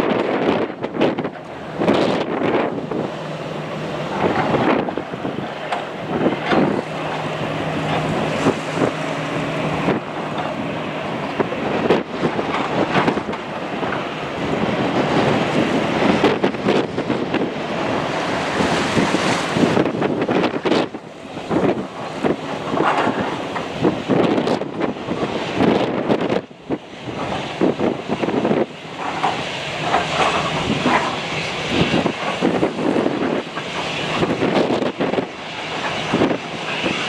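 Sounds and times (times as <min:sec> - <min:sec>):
jet engines of taxiing airliner: 0:00.0 - 0:37.0
wind buffeting microphone: 0:00.0 - 0:37.0.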